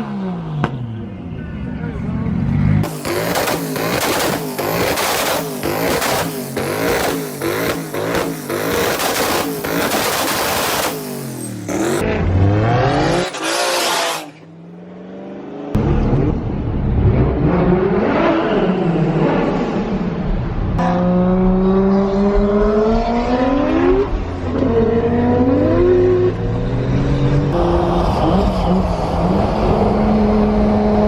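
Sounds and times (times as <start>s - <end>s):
car engines revving hard: 1.8s - 31.0s.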